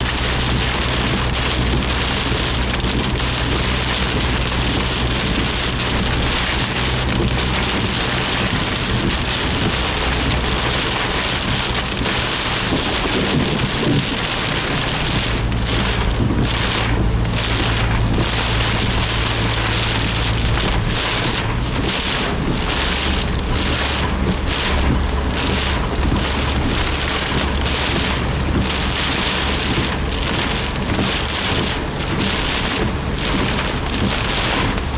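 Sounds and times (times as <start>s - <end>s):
car engine humming: 0.0s - 34.9s
heavy rain drumming on car: 0.0s - 34.9s.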